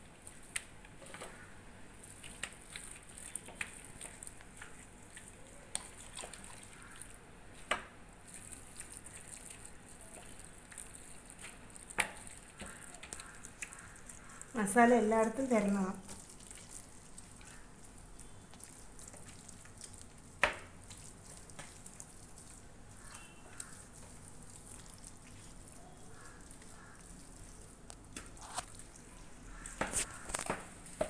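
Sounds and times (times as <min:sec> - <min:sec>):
hands squishing paste on chicken: 0:00.0 - 0:14.6, 0:15.3 - 0:31.0.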